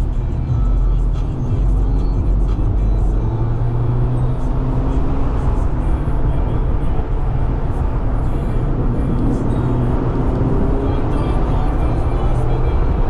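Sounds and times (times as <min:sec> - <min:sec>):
car engine rumble: 0:00.0 - 0:13.0
tyre and road noise: 0:00.0 - 0:13.0.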